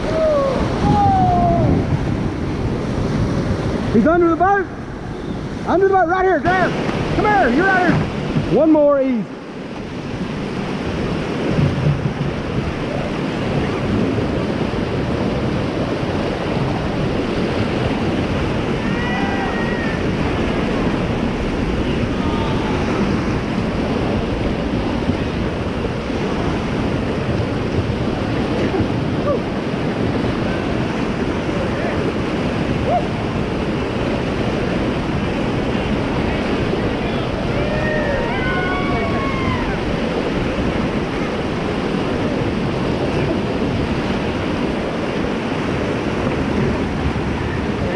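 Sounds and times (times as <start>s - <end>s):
whitewater rapids rushing: 0.0s - 47.9s.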